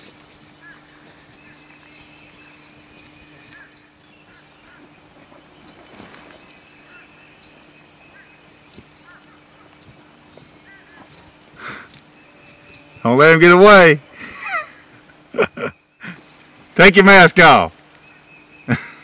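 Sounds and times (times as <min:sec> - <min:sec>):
bird calls: 0:00.0 - 0:16.9, 0:17.5 - 0:19.0
steady low hum: 0:00.0 - 0:19.0.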